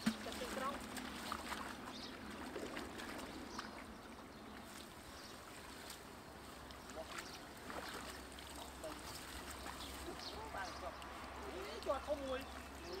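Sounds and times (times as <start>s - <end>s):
splashing of shallow water: 0.0s - 13.0s.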